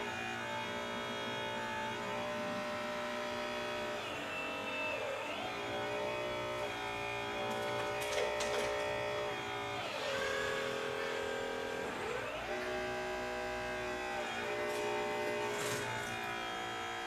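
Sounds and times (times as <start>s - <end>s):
hydraulic pump whining: 0.0s - 17.0s.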